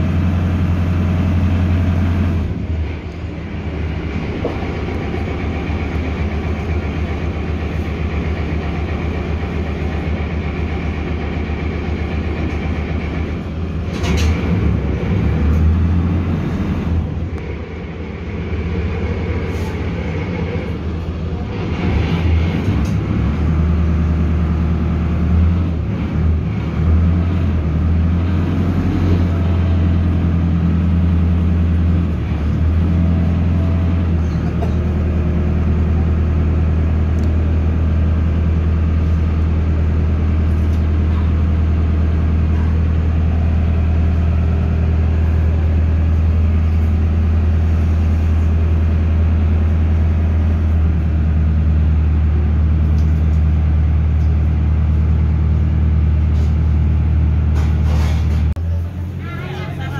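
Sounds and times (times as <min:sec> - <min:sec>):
boat engine humming: 0:00.0 - 0:57.6, 0:58.3 - 0:59.9.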